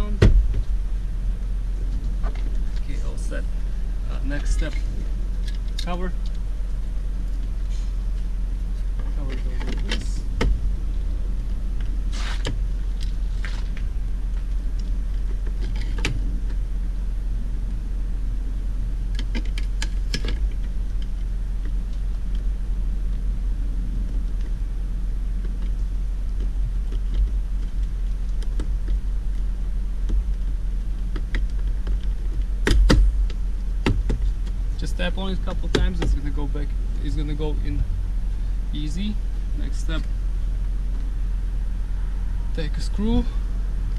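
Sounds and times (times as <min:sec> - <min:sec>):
steady low rumble: 0:00.0 - 0:43.9.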